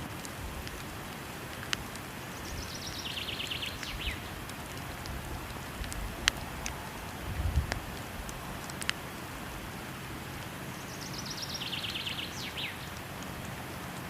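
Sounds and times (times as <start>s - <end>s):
rushing falling water: 0.0s - 14.0s
wood fire crackling: 0.0s - 14.0s.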